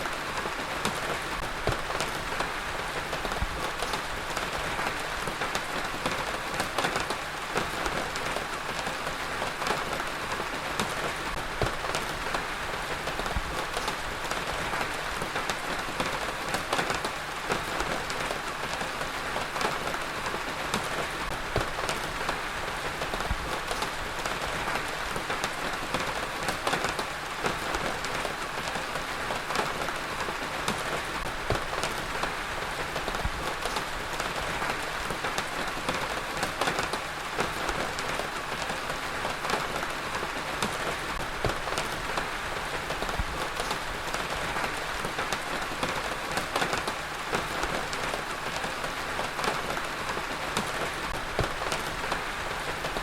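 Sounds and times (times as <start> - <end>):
heavy rain on a hard surface: 0.0 - 53.0.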